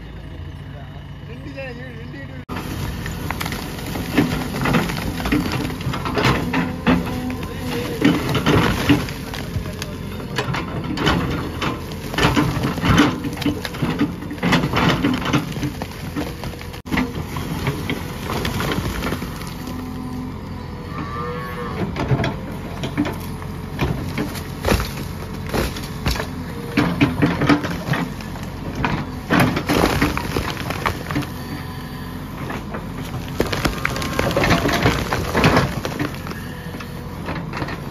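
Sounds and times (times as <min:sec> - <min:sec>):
diesel engine working: 0:00.0 - 0:37.9
bricks and rubble crashing: 0:02.6 - 0:19.8, 0:22.8 - 0:31.8, 0:32.5 - 0:37.9.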